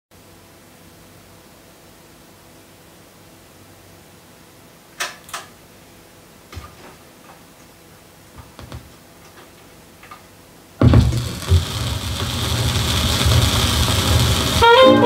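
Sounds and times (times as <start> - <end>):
faint steady hiss: 0.1 - 15.0.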